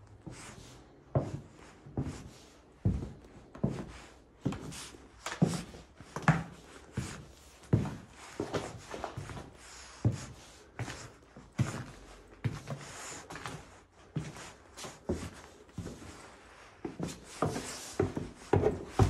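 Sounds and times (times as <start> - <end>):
footsteps on attic floor: 0.2 - 19.0.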